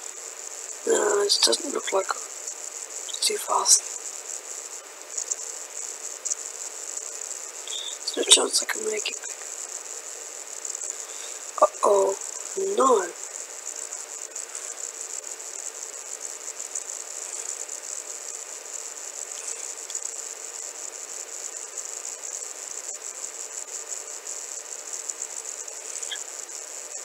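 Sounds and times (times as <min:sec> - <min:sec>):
steady background hiss: 0:00.0 - 0:27.0
faint low hum: 0:03.0 - 0:27.0.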